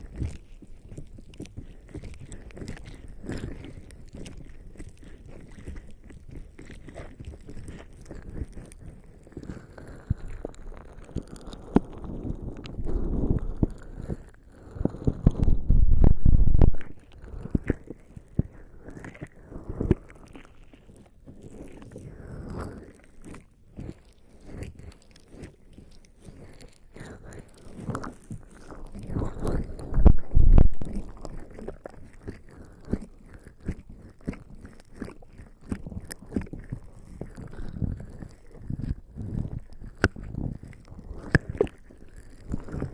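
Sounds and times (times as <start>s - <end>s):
wet skin rubbing on microphone: 0.0s - 42.9s.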